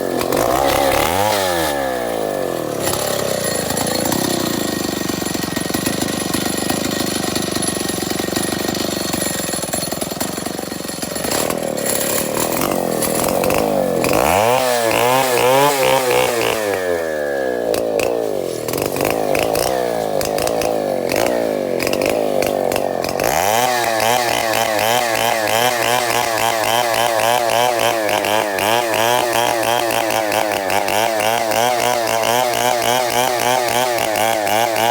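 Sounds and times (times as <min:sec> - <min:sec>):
chainsaw revving and cutting: 0:00.0 - 0:34.9.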